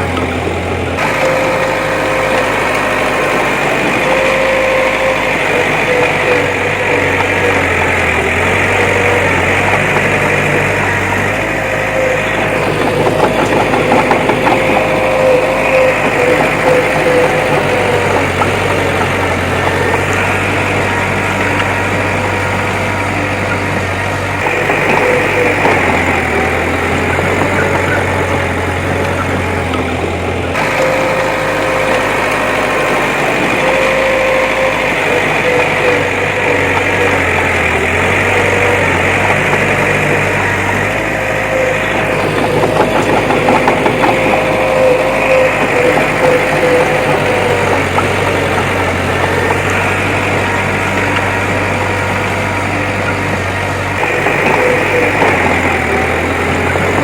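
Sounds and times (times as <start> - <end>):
faint whine: 0.0 - 57.0
heavy machine engine running: 0.0 - 57.0.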